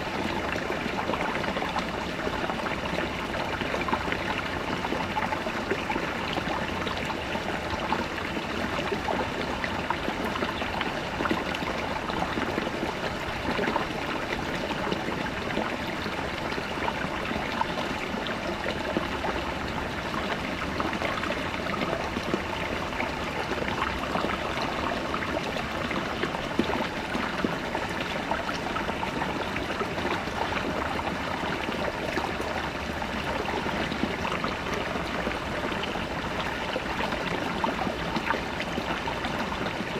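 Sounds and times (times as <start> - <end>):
brook babbling over rocks: 0.0 - 39.9.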